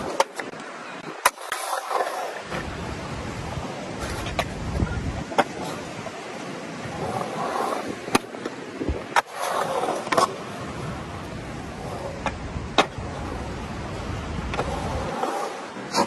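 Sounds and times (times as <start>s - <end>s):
skateboard clacks: 0.0s - 16.0s
skateboard wheels rolling on concrete: 0.0s - 16.0s.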